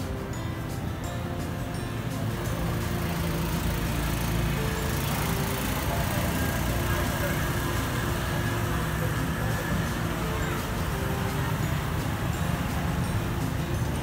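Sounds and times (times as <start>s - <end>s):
people talking: 0.0s - 14.0s
traffic noise: 0.0s - 14.0s.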